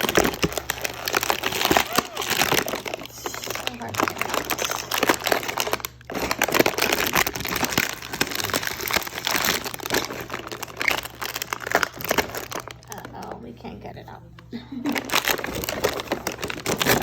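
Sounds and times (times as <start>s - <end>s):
toy packaging crinkling: 0.0s - 13.4s, 14.8s - 17.0s.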